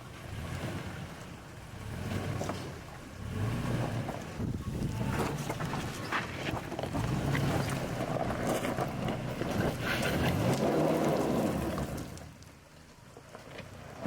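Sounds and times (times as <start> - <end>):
vehicle engine labouring: 0.0 - 14.0.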